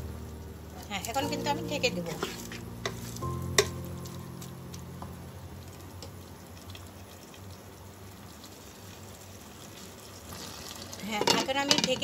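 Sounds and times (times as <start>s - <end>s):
curry simmering and bubbling: 2.0s - 12.0s.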